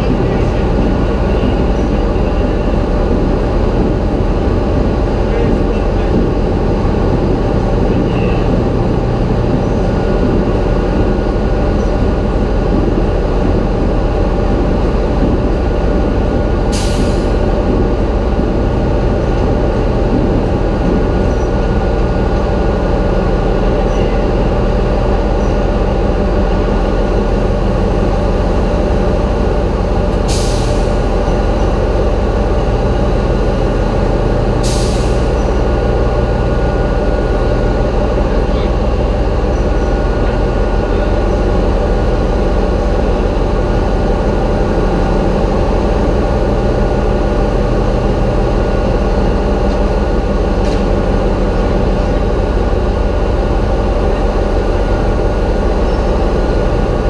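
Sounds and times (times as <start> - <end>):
ship diesel engine rumbling: 0.0 - 57.0.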